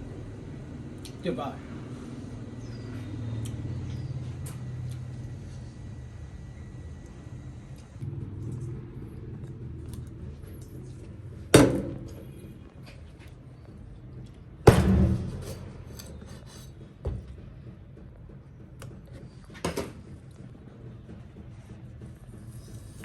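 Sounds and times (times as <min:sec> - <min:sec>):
low steady rumble: 0:00.0 - 0:19.2.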